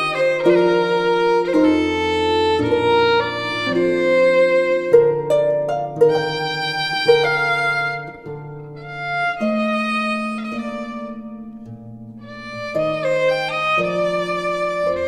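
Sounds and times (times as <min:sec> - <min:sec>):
fiddle melody: 0:00.0 - 0:15.0
plucked strings: 0:00.0 - 0:15.0.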